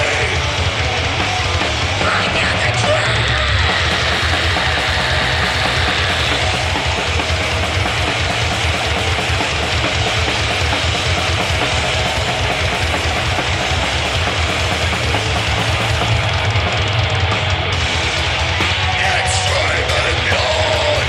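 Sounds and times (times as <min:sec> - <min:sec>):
bass guitar: 0:00.0 - 0:21.0
distorted guitars: 0:00.0 - 0:21.0
fast drums: 0:00.0 - 0:21.0.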